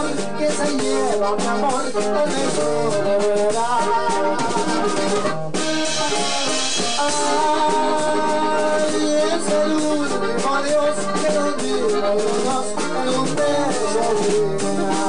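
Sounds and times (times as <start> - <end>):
button accordion melody: 0.0 - 15.0
drum kit: 0.0 - 15.0.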